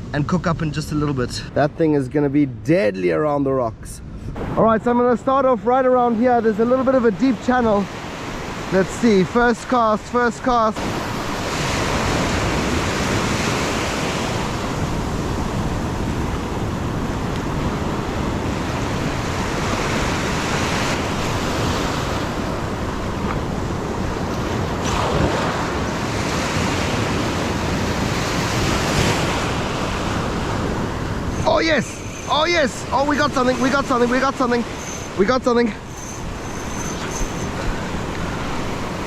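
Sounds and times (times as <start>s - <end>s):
wind rumbling on microphone: 0.0s - 6.2s, 6.8s - 39.0s
sea surf on rocky shore: 4.3s - 39.0s.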